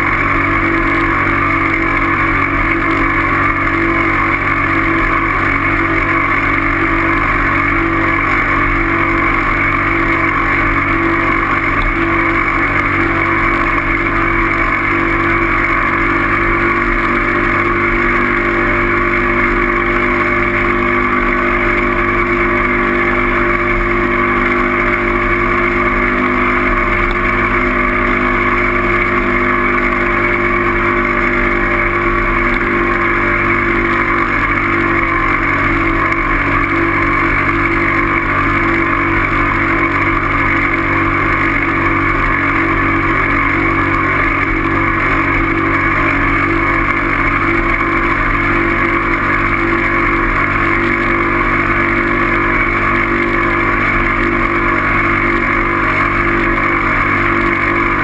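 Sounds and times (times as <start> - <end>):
bike road noise with low hum: 0.0 - 58.0.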